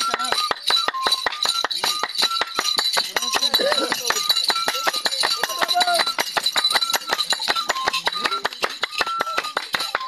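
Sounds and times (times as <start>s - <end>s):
clinking metal percussion: 0.0s - 10.0s.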